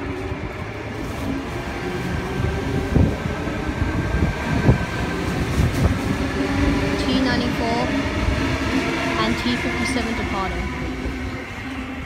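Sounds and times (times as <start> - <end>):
train cars rumbling: 0.0 - 12.0.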